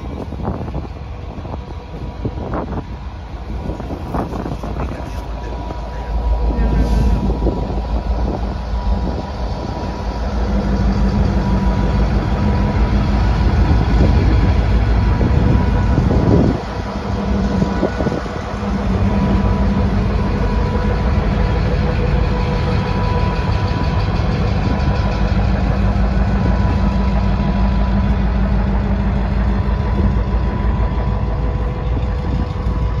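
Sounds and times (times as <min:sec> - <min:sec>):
diesel locomotive engine droning: 0:00.0 - 0:33.0.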